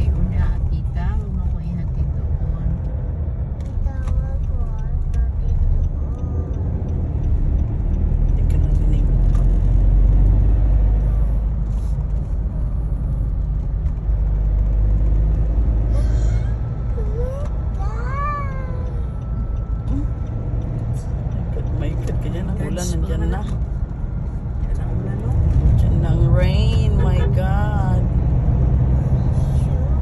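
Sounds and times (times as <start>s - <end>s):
car cabin road rumble: 0.0s - 30.0s.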